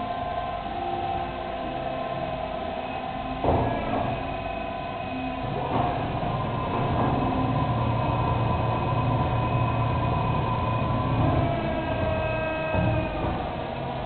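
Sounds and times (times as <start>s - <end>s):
faint machine whine: 0.0s - 14.0s
machine low mechanical hum: 0.0s - 14.0s.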